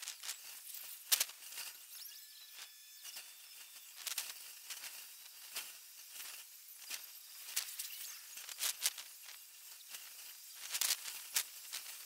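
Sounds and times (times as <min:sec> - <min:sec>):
faint outdoor background hiss: 0:00.0 - 0:12.0
thin steady tone: 0:00.0 - 0:12.0.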